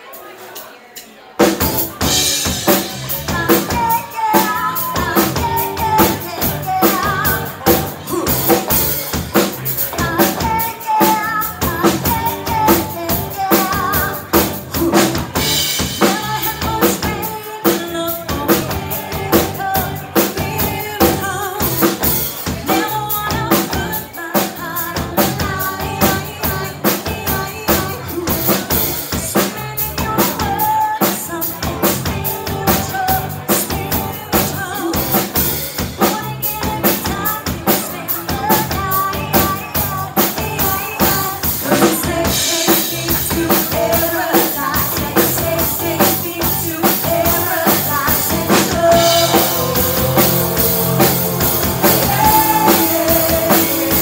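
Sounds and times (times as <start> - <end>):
drum kit beat: 0.0 - 54.0
bass: 1.4 - 54.0
electric guitar: 1.6 - 54.0
woman singing: 2.0 - 54.0.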